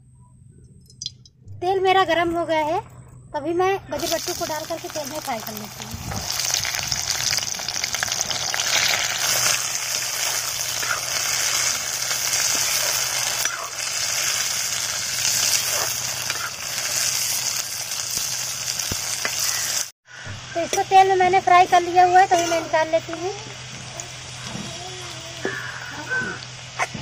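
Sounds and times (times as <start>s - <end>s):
beans sizzling in hot oil: 4.0s - 26.8s.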